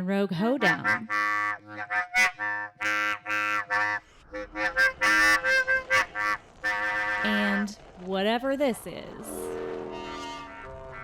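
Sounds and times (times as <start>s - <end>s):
hoedown tune on pipe instruments: 0.6s - 8.0s, 9.1s - 11.0s.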